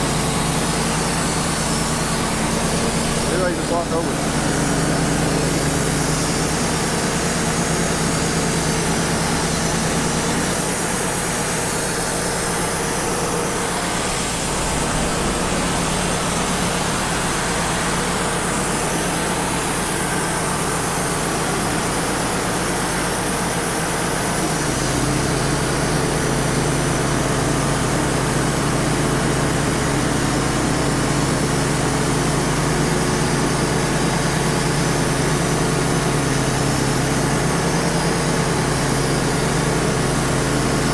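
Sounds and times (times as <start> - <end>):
sawdust blower hissing: 0.0 - 40.9
sawmill engine running: 0.0 - 40.9.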